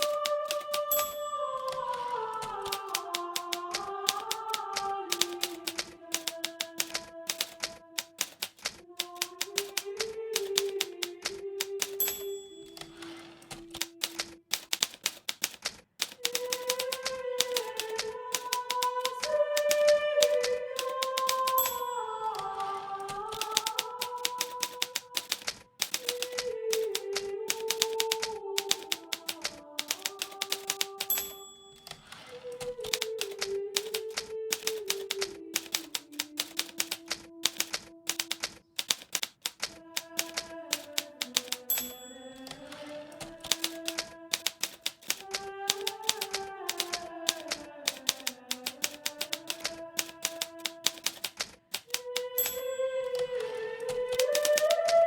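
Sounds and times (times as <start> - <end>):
manual typewriter keystrokes: 0.0 - 55.0.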